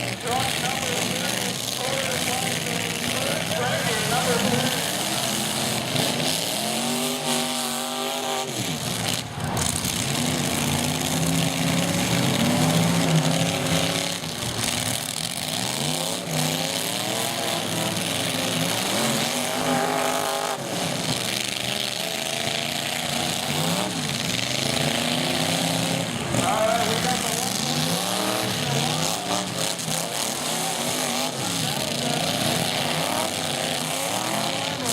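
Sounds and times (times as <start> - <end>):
truck engines revving hard: 0.0 - 34.9.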